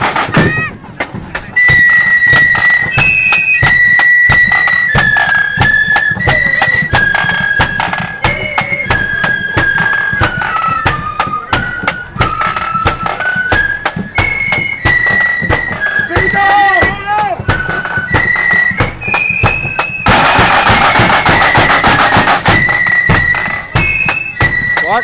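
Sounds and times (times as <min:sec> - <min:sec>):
bass and side drums: 0:00.0 - 0:25.0
flutes playing melody: 0:00.0 - 0:25.0.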